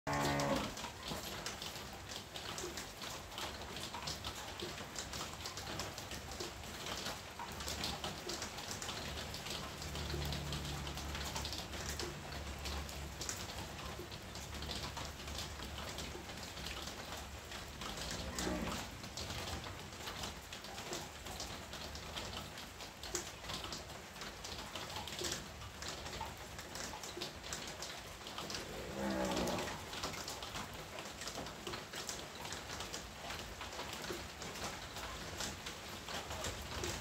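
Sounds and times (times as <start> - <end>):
rain falling on foliage: 0.1 - 37.0.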